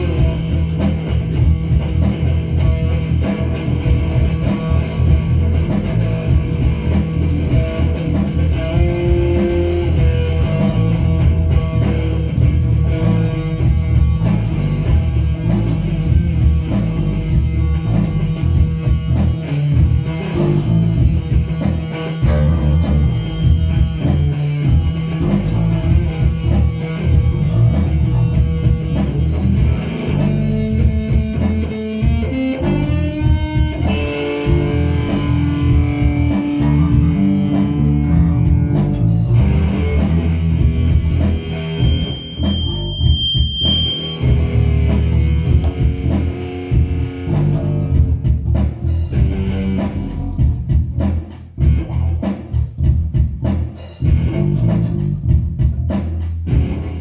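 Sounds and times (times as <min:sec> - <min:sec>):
electric guitars playing rock riffs: 0:00.0 - 0:57.0.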